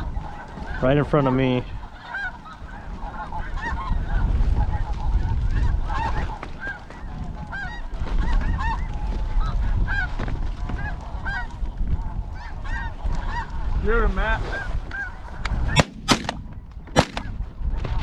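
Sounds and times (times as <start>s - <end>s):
geese honking: 0.0s - 17.4s
wind rumbling on microphone: 0.0s - 18.0s.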